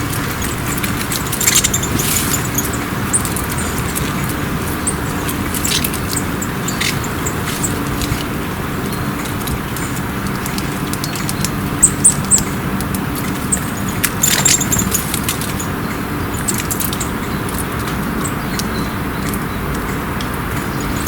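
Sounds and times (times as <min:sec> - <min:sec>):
low hum of road traffic: 0:00.0 - 0:21.0
songbirds chirping: 0:00.0 - 0:21.0.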